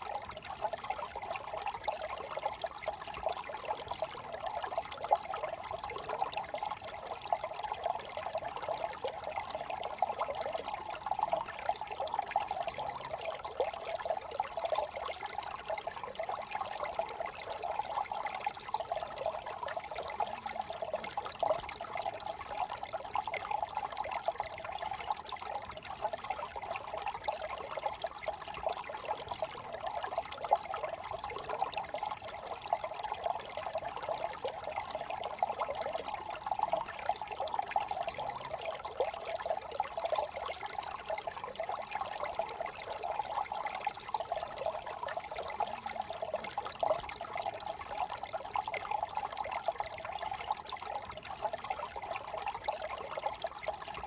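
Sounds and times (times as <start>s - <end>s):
brook water babbling: 0.0s - 54.0s.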